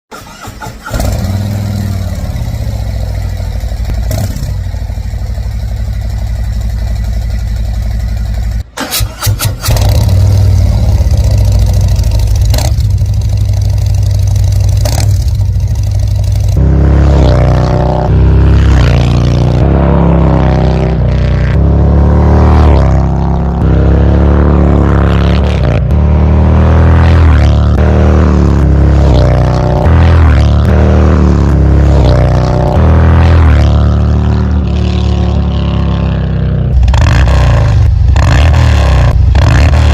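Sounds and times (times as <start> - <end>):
motorcycle engine idling and revving: 0.1 - 39.9.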